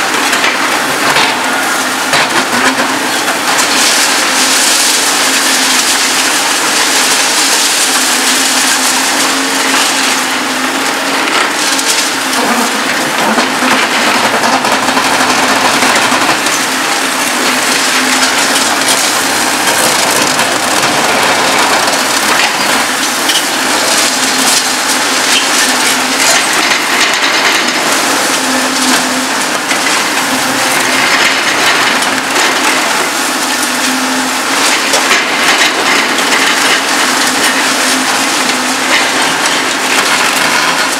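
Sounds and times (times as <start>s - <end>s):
excavator engine humming: 0.0s - 40.9s
concrete cracking and crumbling: 0.1s - 40.9s.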